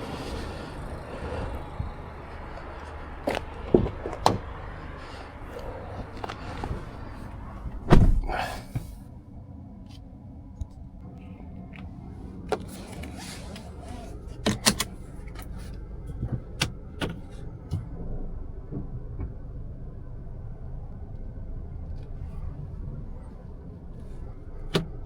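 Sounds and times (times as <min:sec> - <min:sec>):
low rumble inside car cabin: 0:00.0 - 0:25.0.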